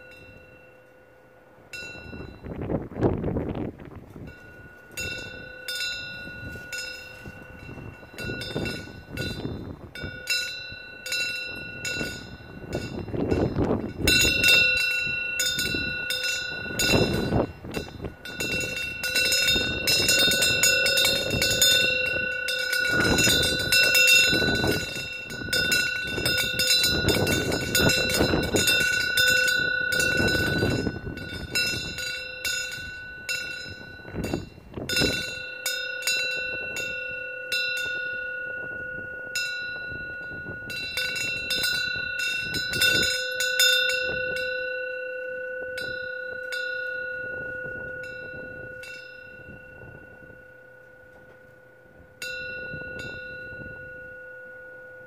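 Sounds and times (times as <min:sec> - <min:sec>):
wind bell ringing: 0:00.0 - 0:55.0
wind gusts: 0:00.0 - 0:55.0.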